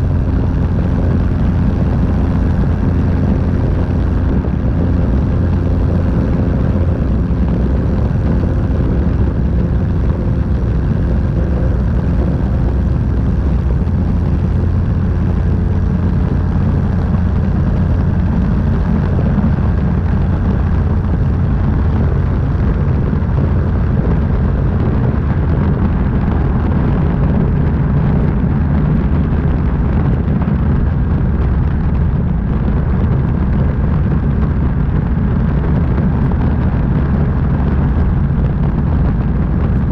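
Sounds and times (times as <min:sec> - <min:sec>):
propeller engine drone: 0:00.0 - 0:39.9
wind rushing over camera: 0:00.0 - 0:39.9.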